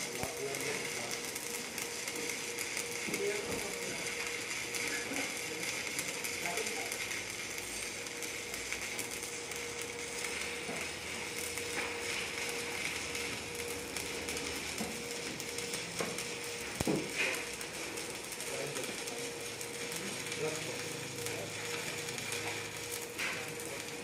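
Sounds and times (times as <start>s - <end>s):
welding arc crackling and sizzling: 0.0s - 24.0s.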